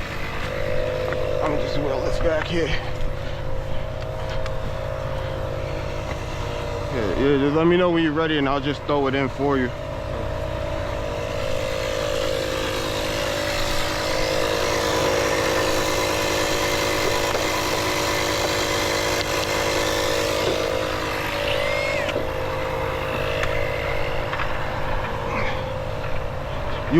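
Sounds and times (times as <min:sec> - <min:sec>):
highway traffic passing: 0:00.0 - 0:26.9.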